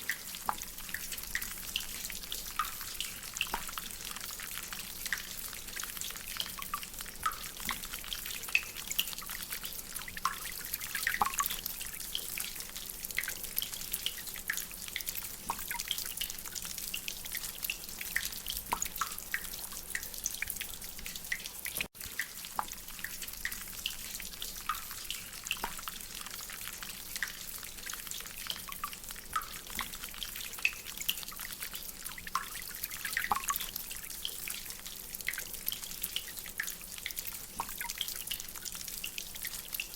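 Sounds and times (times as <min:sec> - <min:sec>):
drips plinking from drainpipe: 0:00.0 - 0:39.9.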